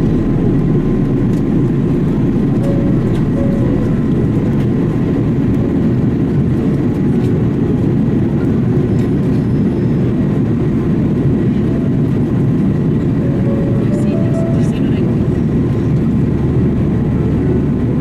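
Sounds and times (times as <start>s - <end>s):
jet engine rumble in cabin: 0.0s - 18.0s.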